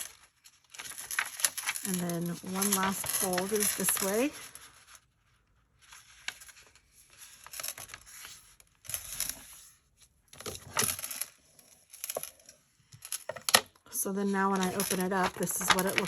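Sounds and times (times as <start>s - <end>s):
paper rustling and crinkling: 0.0s - 13.6s, 14.2s - 16.0s.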